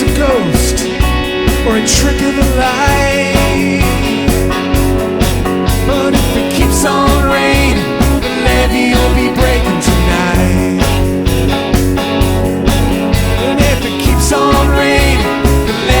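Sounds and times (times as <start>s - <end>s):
rock band playing live: 0.0s - 16.0s
steady drum beat: 0.0s - 16.0s.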